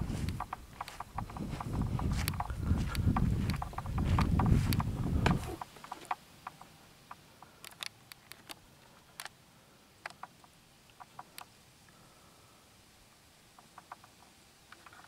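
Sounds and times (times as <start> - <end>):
faint clicks and ticks: 0.1 - 9.4, 10.0 - 12.0, 13.5 - 15.0.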